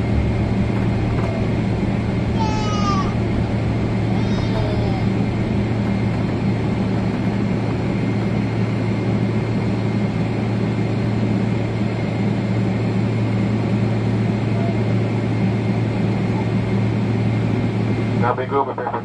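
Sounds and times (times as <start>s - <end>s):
jet engine drone in cabin: 0.0s - 19.0s.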